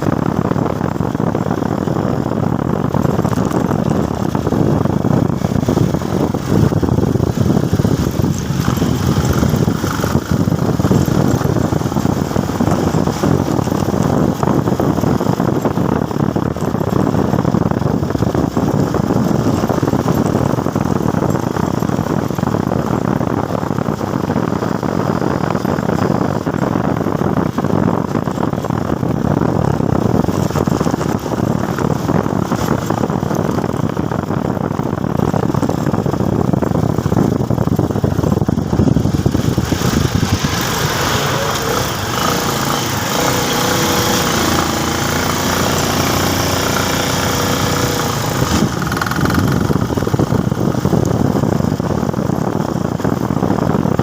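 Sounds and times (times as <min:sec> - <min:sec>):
motorcycle engine: 0:00.0 - 0:54.0
wind noise: 0:00.0 - 0:54.0.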